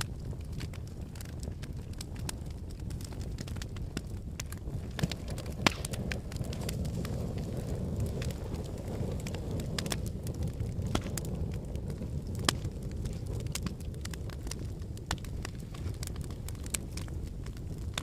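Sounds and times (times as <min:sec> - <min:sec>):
fire burning in fireplace: 0:00.0 - 0:18.0
fire crackling and popping: 0:00.0 - 0:18.0.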